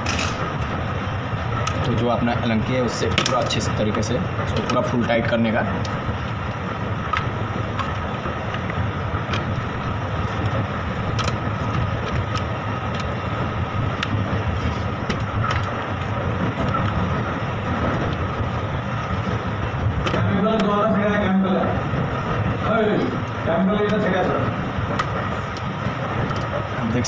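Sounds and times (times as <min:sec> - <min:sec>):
machinery noise: 0:00.0 - 0:27.0.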